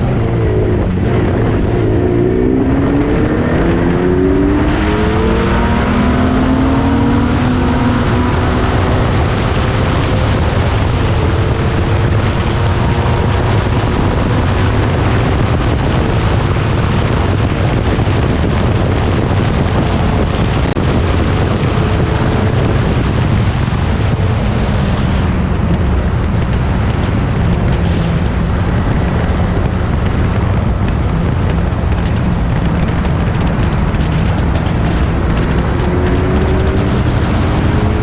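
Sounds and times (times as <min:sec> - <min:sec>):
racing car engine: 0:00.0 - 0:38.0
wind buffeting microphone: 0:00.0 - 0:38.0.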